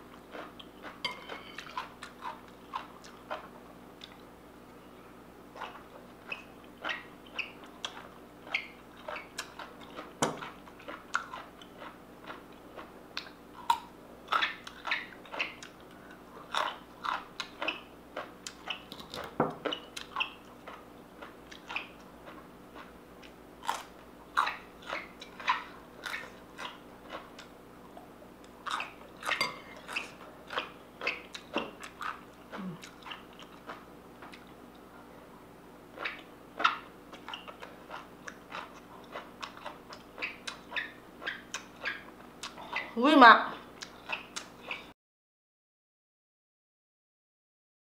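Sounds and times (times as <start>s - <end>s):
chewing and crunching salad: 0.0s - 44.9s.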